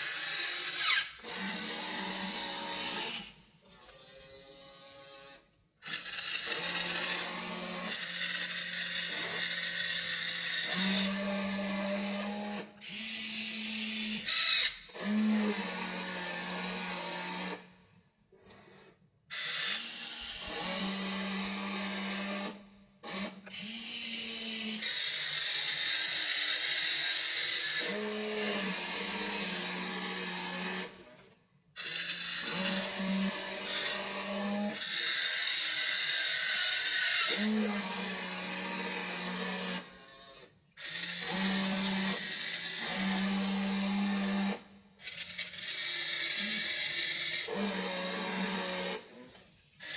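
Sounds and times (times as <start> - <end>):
small electric motors whirring: 0.0 - 17.7, 18.5 - 49.9.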